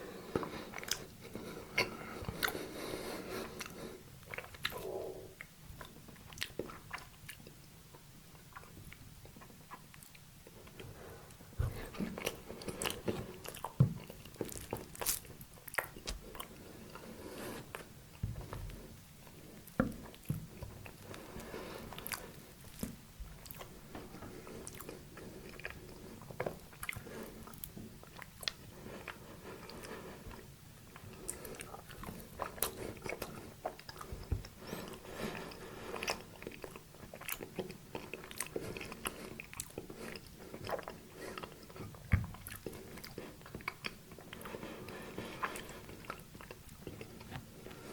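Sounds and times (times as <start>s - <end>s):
chewing crunchy food: 0.2s - 11.0s, 11.6s - 47.9s.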